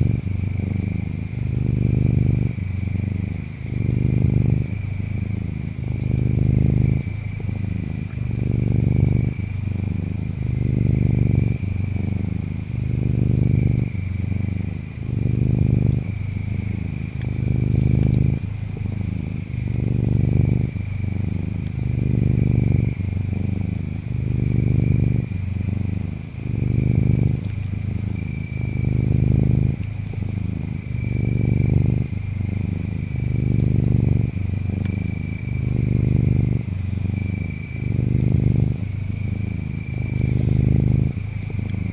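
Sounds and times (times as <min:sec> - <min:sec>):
cat purring: 0:00.0 - 0:41.9
insects trilling and chirping: 0:00.0 - 0:41.9.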